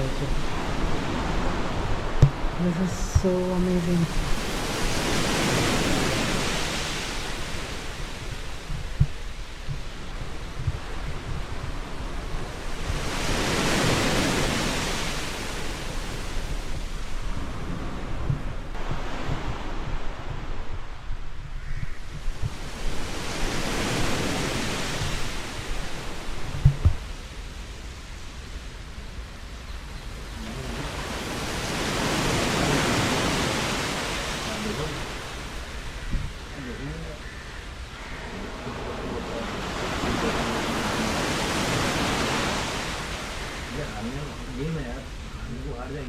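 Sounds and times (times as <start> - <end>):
sea waves washing in: 0.0 - 46.0
wind rumble on microphone: 0.0 - 46.0.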